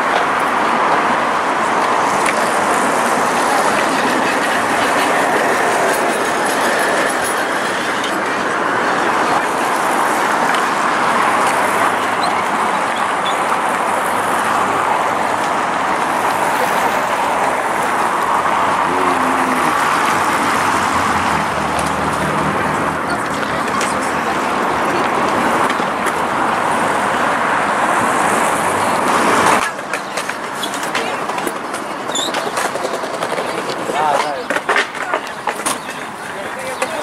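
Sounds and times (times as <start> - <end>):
cars driving past: 0.0 - 30.8.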